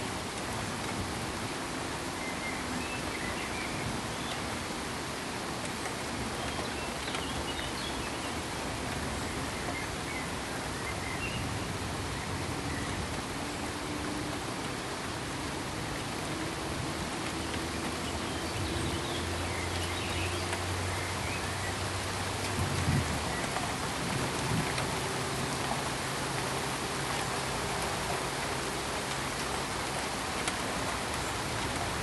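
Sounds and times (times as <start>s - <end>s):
pink noise hiss: 0.0s - 32.0s.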